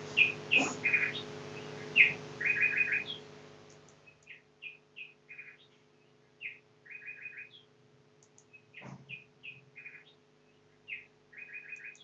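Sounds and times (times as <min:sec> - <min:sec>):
faint low hum: 0:00.0 - 0:12.0
small songbirds chirping: 0:00.0 - 0:12.0.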